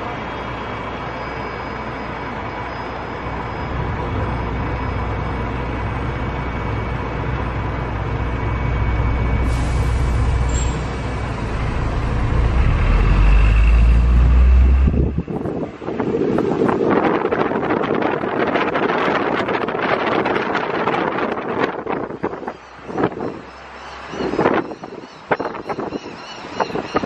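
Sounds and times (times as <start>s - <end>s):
bus rumble: 0.0s - 27.0s
city traffic: 0.0s - 27.0s.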